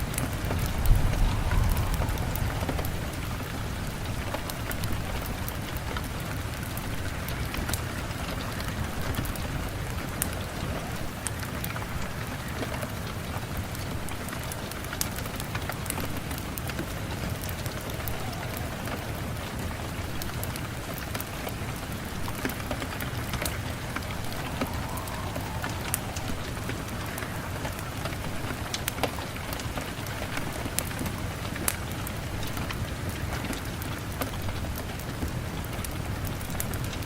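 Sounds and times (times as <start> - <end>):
steady rain: 0.0 - 37.0
wood fire crackling: 0.0 - 37.0.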